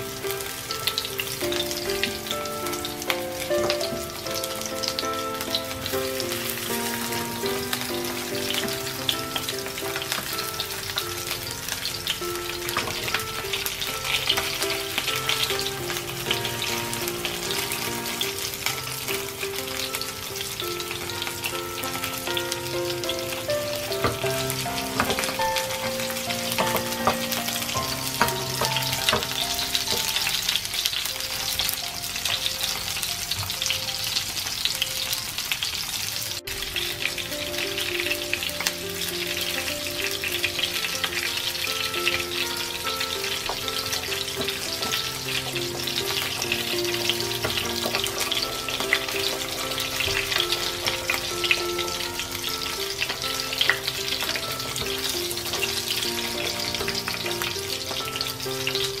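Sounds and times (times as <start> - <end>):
fish fillets sizzling in oil: 0.0 - 59.0
soft background music: 0.0 - 59.0.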